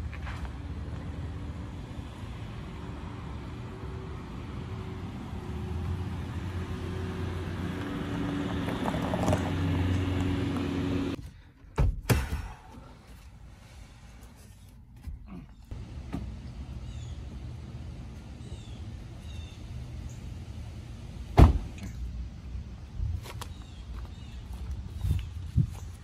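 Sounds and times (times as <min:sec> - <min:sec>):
car engine and tyres rumbling: 0:00.0 - 0:11.3, 0:12.7 - 0:26.0.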